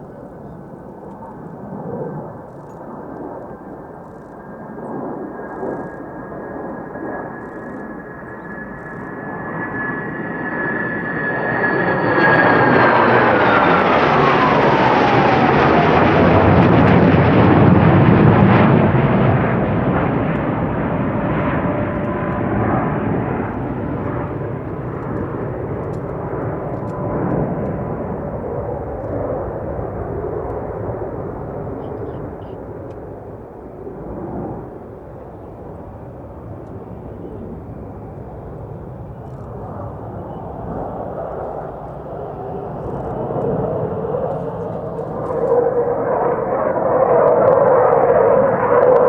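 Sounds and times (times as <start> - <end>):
jet passing overhead: 0.0 - 49.0.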